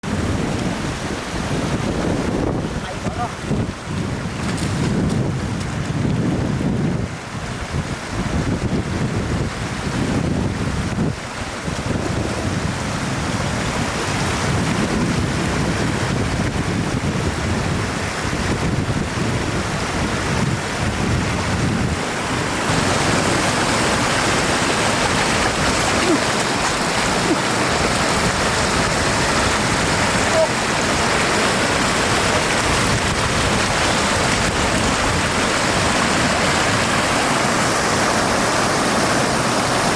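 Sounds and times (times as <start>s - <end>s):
rushing water: 0.0s - 39.9s
wind rumble on microphone: 0.0s - 39.9s.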